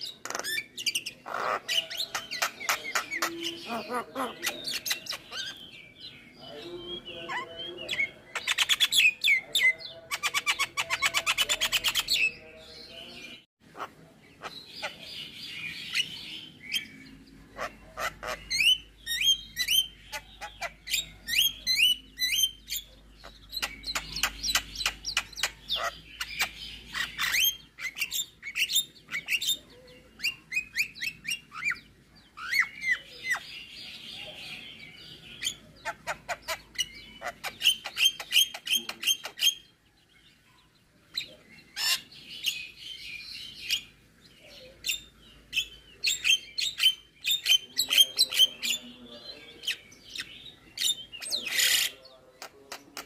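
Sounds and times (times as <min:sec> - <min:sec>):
harsh scratchy bird chatter: 0:00.0 - 0:06.2, 0:07.9 - 0:12.4, 0:13.8 - 0:31.8, 0:32.4 - 0:39.7, 0:41.1 - 0:44.0, 0:44.9 - 0:53.0.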